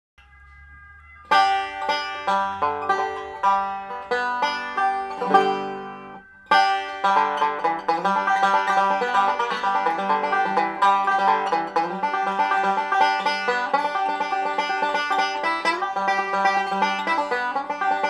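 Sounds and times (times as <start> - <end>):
banjo picking: 0.2 - 18.0.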